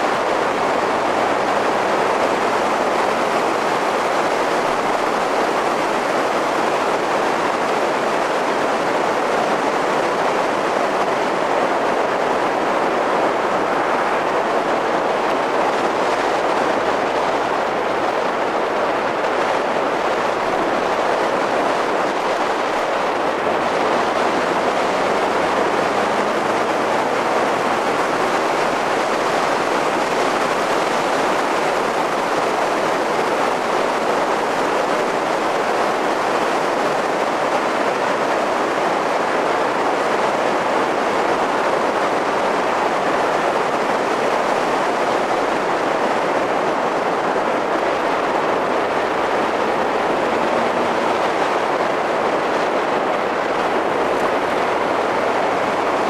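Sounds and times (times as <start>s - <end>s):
car road noise: 0.0s - 56.0s
wind rush: 0.0s - 56.0s.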